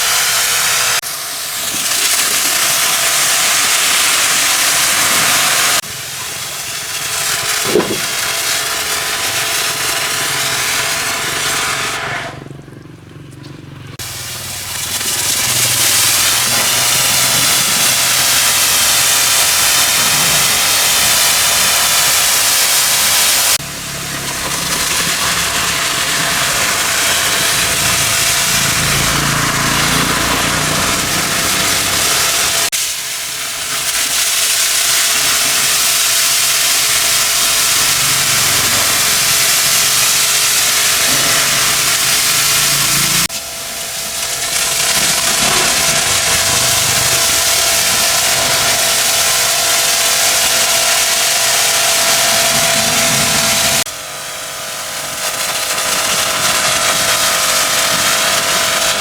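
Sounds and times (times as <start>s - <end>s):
pressure washer spraying: 0.0s - 12.5s, 13.3s - 59.0s
pump running: 0.0s - 59.0s.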